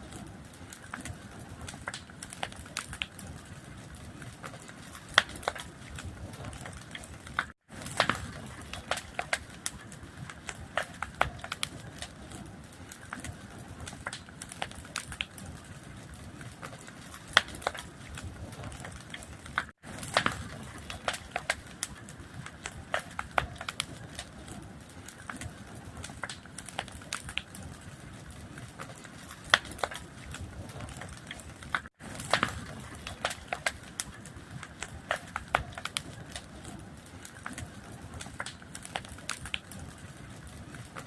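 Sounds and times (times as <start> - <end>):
fire crackling: 0.0 - 41.0.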